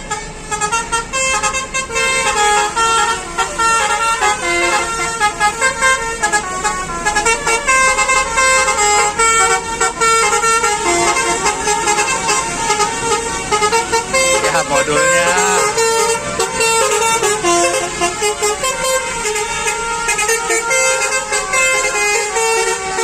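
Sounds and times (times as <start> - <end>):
multi-tone bus horn tune: 0.0 - 23.0.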